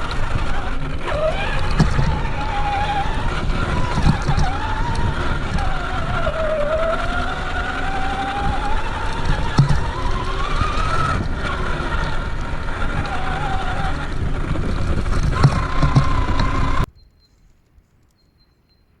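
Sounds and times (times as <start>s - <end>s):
electric motor whining: 0.0s - 16.9s
rumbling on rough ground: 0.0s - 17.7s.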